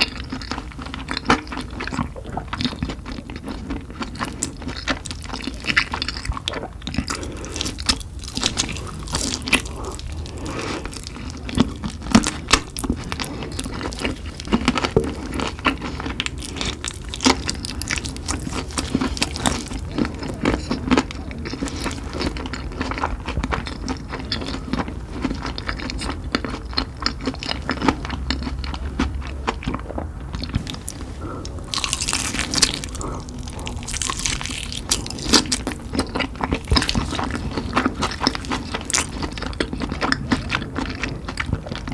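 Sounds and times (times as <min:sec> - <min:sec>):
wet crunchy chewing: 0:00.0 - 0:41.9.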